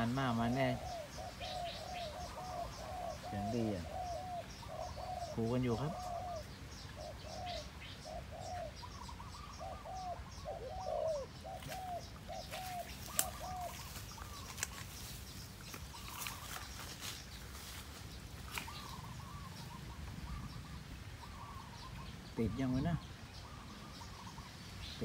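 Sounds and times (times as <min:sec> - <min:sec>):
low dove coos: 0:00.0 - 0:14.8, 0:18.5 - 0:24.5
higher dove coos: 0:00.0 - 0:14.9, 0:18.5 - 0:24.5.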